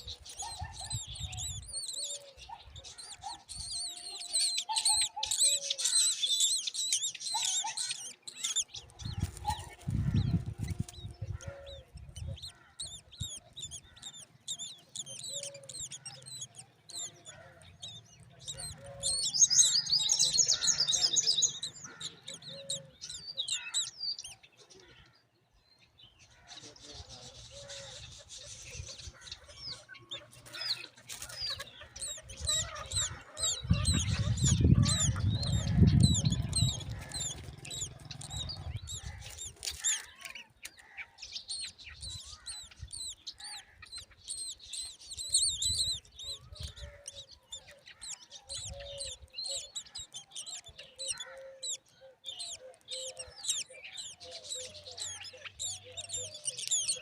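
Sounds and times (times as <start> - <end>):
chicks chirping: 0.0 - 24.6, 26.6 - 57.0.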